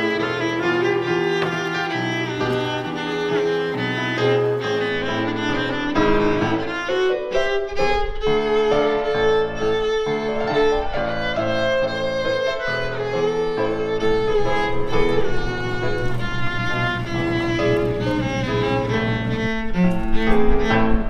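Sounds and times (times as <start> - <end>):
violin lead: 0.0 - 21.0.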